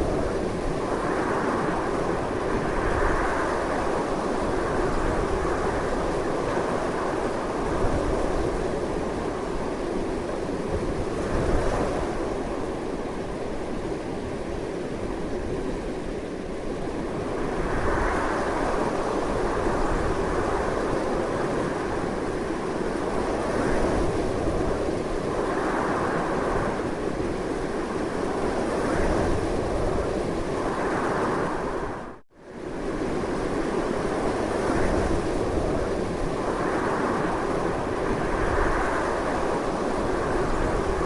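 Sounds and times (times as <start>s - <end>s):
strong wind rushing: 0.0s - 41.0s.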